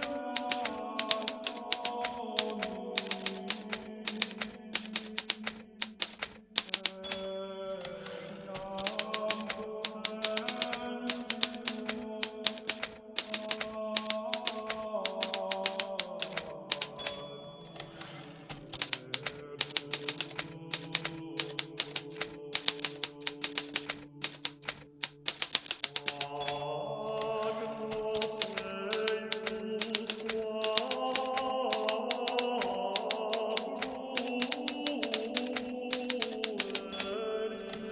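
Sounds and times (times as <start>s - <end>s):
typewriter keystrokes: 0.0s - 37.9s.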